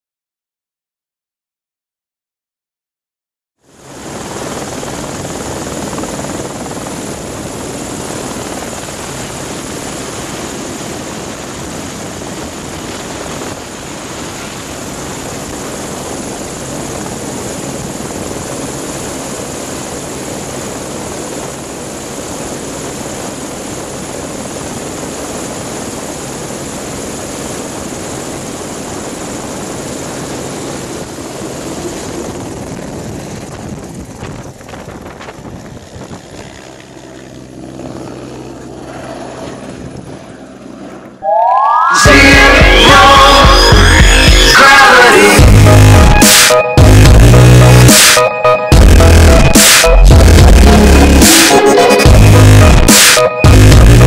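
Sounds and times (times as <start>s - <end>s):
helicopter rotor noise: 3.6s - 54.0s
high turbine whine: 3.6s - 54.0s.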